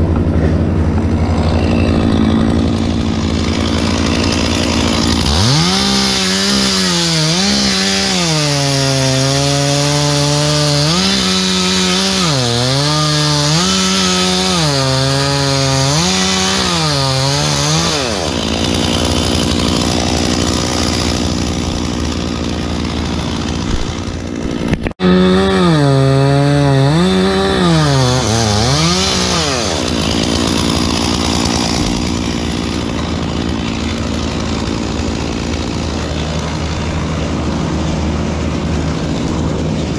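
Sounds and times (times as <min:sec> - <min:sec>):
chainsaw revving while cutting wood: 0:00.1 - 0:39.9.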